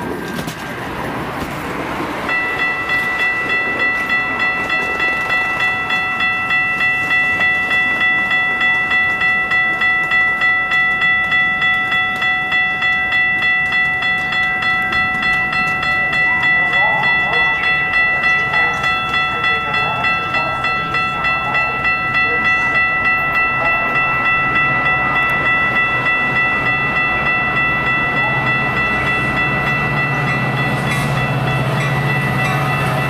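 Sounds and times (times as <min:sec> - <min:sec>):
diesel locomotive rumble: 0:00.0 - 0:33.0
railroad crossing bell ringing: 0:00.0 - 0:33.0.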